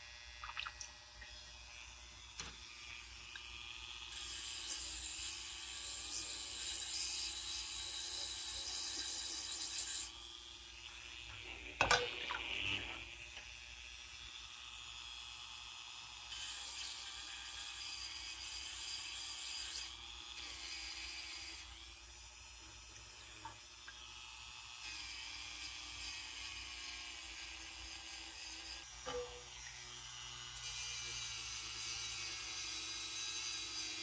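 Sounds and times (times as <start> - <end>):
rotary tool grinding pottery: 1.8 - 13.5, 16.2 - 34.0.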